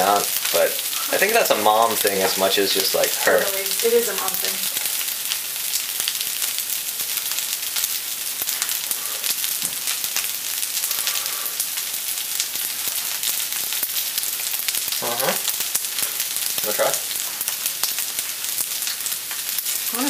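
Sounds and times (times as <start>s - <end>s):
noodles sizzling in a frying pan: 0.0s - 20.0s.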